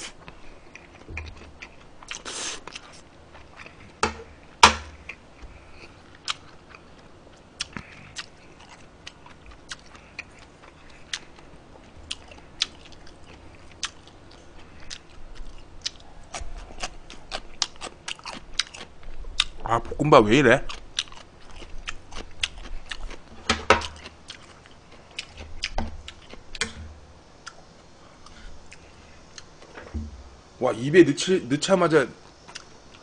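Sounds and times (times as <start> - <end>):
close chewing of food: 0.0 - 19.7, 20.5 - 29.7, 32.3 - 33.0.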